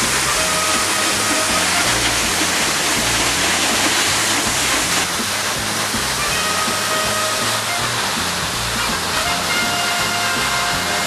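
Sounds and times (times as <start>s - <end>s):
background music with bass line: 0.0s - 11.0s
waterfall rushing: 0.0s - 11.0s.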